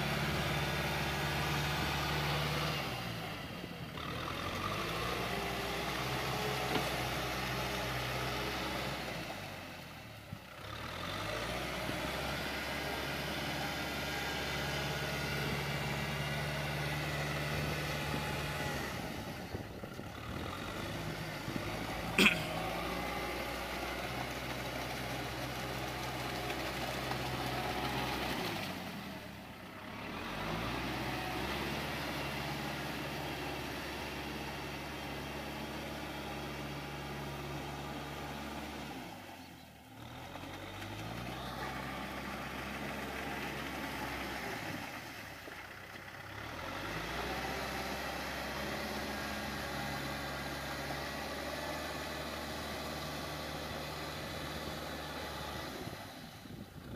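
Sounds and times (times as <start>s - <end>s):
tractor diesel engine labouring: 0.0s - 56.9s.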